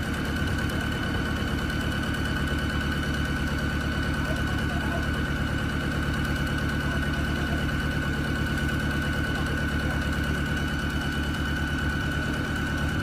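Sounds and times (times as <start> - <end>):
engine chugging: 0.0 - 13.0.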